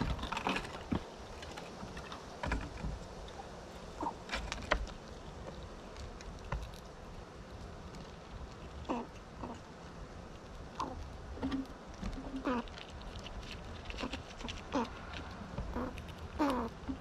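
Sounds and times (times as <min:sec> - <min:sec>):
squirrels scrabbling: 0:00.0 - 0:17.0.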